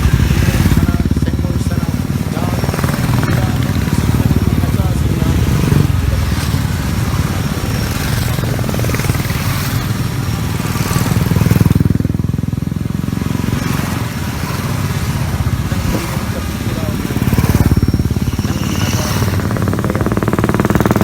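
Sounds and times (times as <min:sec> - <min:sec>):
motorcycle engines droning: 0:00.0 - 0:21.0.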